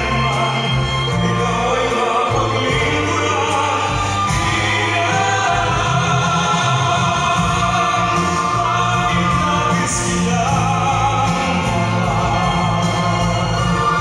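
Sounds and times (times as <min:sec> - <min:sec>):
choir singing long notes: 0:00.0 - 0:14.0
low musical accompaniment: 0:00.0 - 0:14.0.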